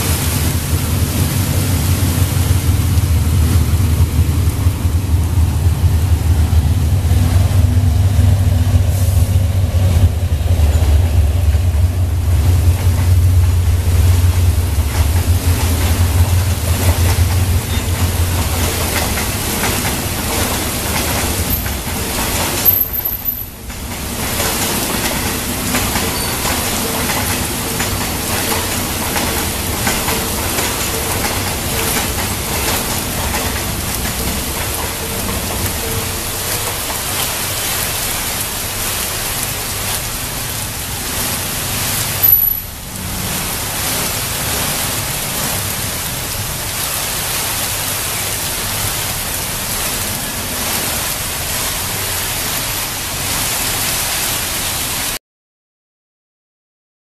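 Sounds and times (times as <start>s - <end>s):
rain on a wet road: 0.0s - 55.2s
vehicles passing through water: 0.0s - 55.2s.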